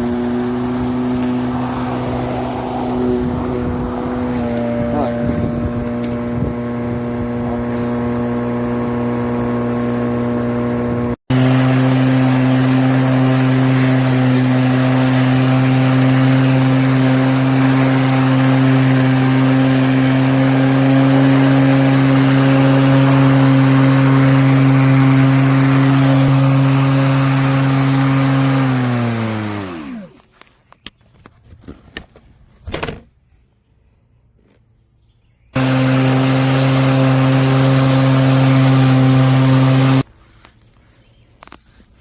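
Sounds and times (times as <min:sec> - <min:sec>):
lawn mower humming: 0:00.0 - 0:30.4, 0:35.6 - 0:40.1.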